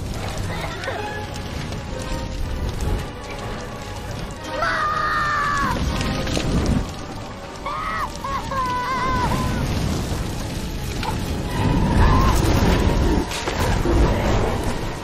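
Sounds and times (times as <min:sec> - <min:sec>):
film music: 0:00.0 - 0:15.0
low rumble of fire: 0:00.0 - 0:15.0.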